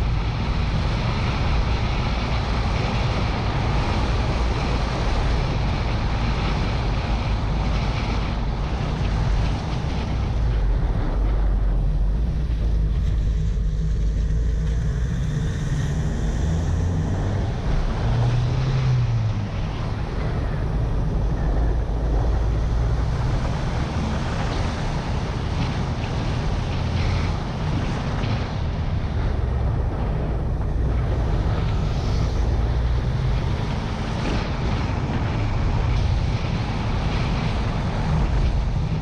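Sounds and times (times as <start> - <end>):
road rumble: 0.0 - 39.0
wind buffeting microphone: 0.0 - 39.0.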